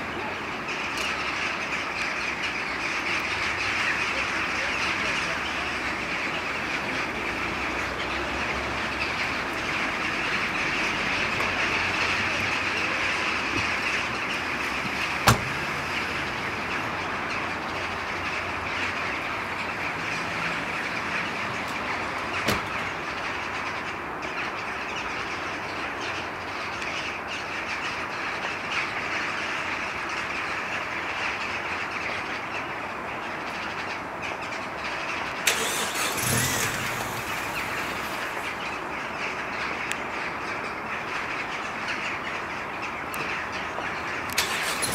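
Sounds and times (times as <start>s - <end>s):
flock of jackdaws calling: 0.0s - 44.9s.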